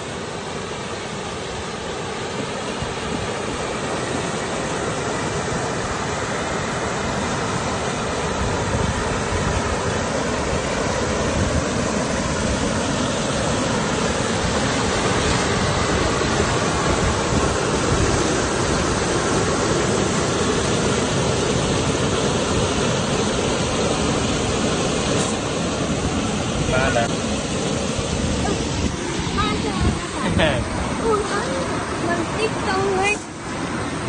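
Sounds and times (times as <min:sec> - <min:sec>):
floodwater rushing through rapids: 0:00.0 - 0:34.0.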